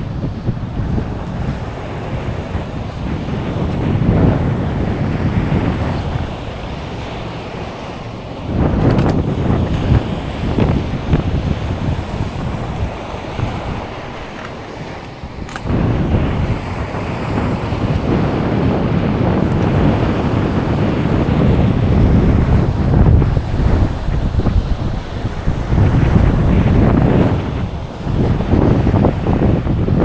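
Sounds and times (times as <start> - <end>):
surf washing: 0.0 - 30.0
wind rumbling on microphone: 0.0 - 30.0.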